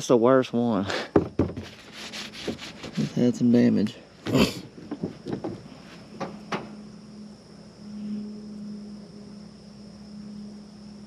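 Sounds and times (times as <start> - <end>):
steady low hum: 1.7 - 11.0.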